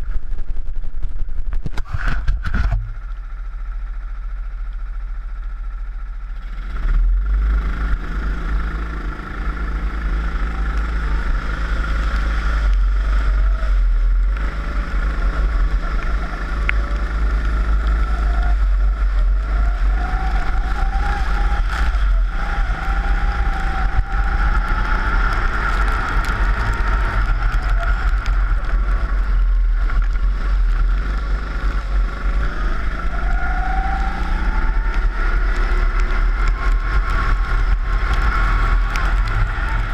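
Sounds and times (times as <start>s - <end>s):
steady low rumble: 0.0s - 39.9s
kart engine revving: 6.4s - 39.9s.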